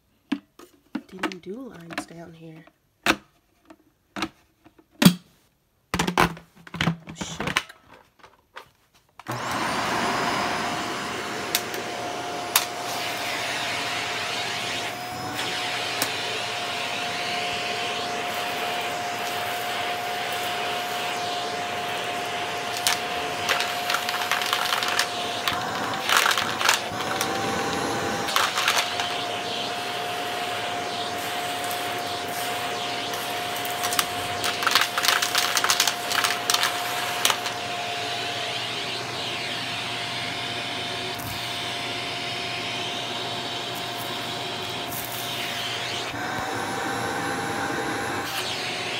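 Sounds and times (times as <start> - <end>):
vacuum cleaner whining: 9.2 - 48.9.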